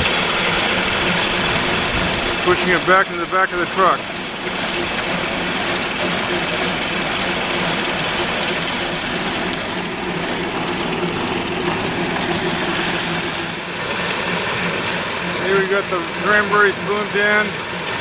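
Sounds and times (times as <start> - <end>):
elevator machinery running: 0.0 - 18.0.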